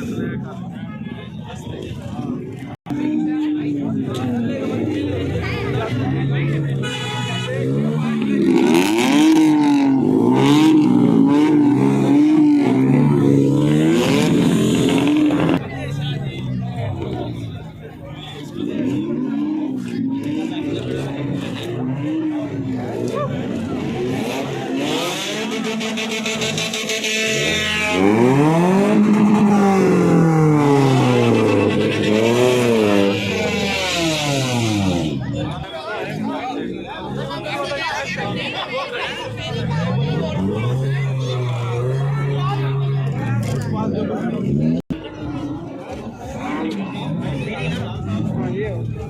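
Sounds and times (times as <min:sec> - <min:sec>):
vehicle engine revving: 0:01.7 - 0:37.5, 0:39.2 - 0:49.0.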